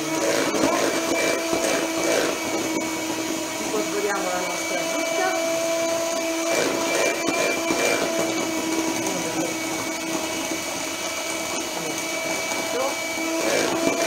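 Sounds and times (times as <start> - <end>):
electric mixer whine: 0.0 - 14.0.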